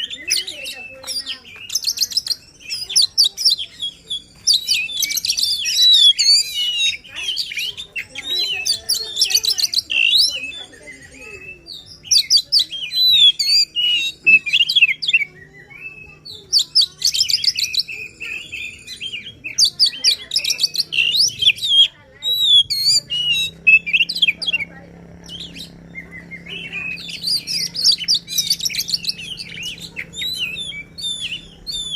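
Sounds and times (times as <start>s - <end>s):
magpie-robin singing: 0.0s - 31.9s.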